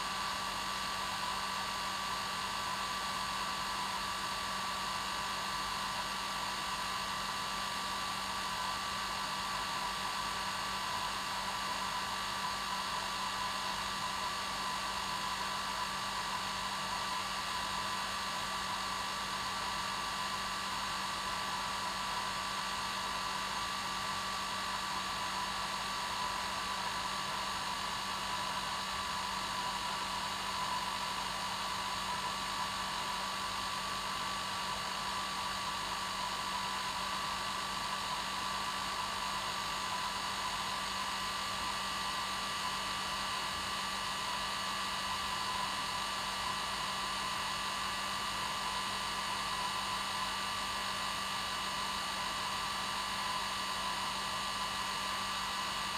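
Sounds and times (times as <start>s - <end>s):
hair dryer running: 5.3s - 55.9s.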